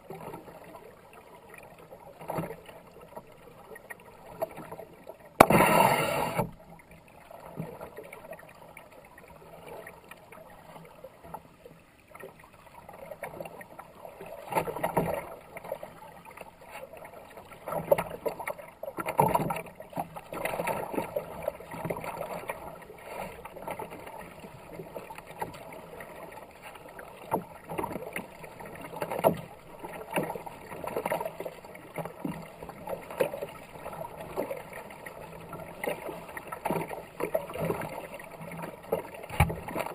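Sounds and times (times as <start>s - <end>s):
paddle splashing in water: 0.0s - 11.0s, 12.1s - 39.9s.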